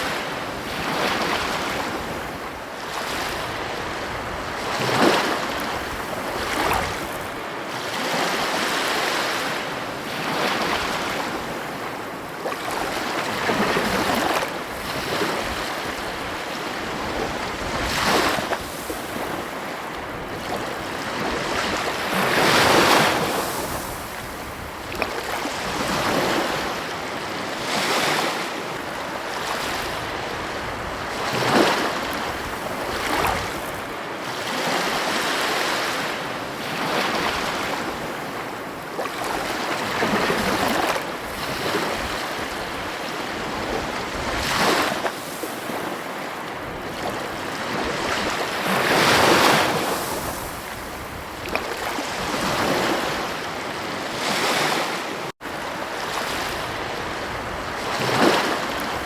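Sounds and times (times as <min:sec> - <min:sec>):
ocean waves breaking: 0:00.0 - 0:59.0
wind: 0:00.0 - 0:59.0.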